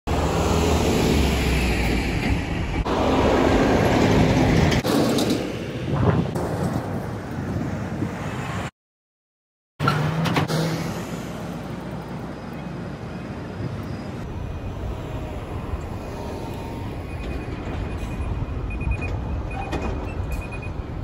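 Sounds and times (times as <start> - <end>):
truck approaching: 0.1 - 7.8, 9.9 - 21.0
road traffic rumble: 0.1 - 8.7, 9.8 - 21.0.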